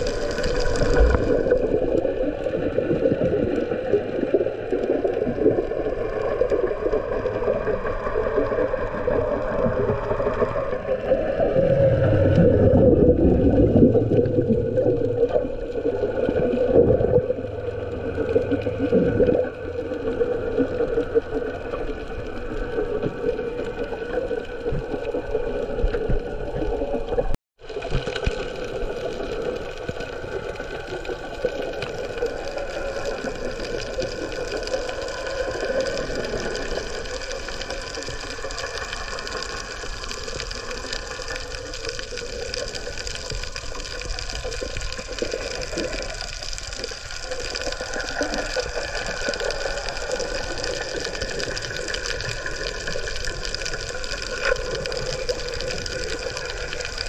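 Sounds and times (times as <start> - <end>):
underwater water noise: 0.0 - 57.0.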